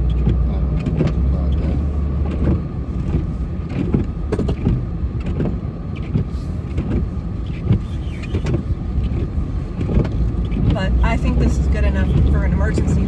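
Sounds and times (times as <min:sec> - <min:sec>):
knocks and clunks: 0:00.0 - 0:13.0
snow plow engine rumbling: 0:00.0 - 0:13.0.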